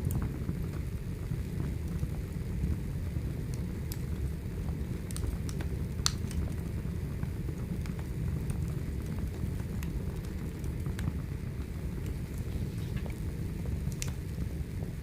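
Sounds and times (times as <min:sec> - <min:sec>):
fire low rumble: 0:00.0 - 0:15.0
firewood crackling: 0:00.0 - 0:15.0.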